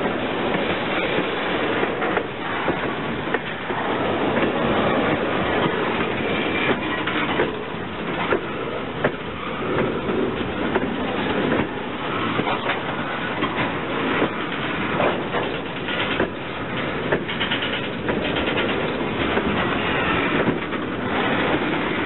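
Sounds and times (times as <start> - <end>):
train wheels rumbling on rails: 0.0 - 22.0
wheels clicking over rail joints: 0.0 - 22.0.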